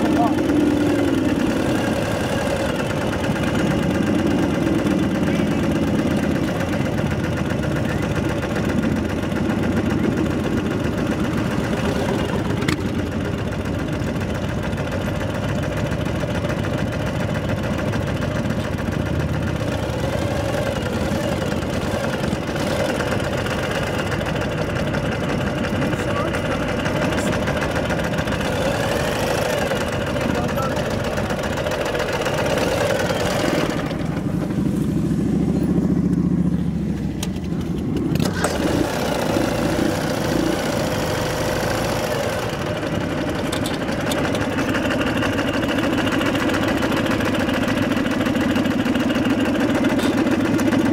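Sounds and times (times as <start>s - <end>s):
motorcycle engines at low revs: 0.0s - 50.9s.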